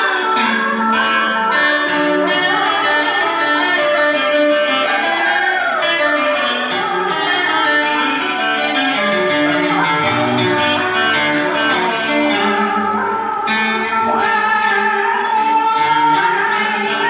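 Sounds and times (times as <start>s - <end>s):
electric guitar instrumental music: 0.0s - 17.0s.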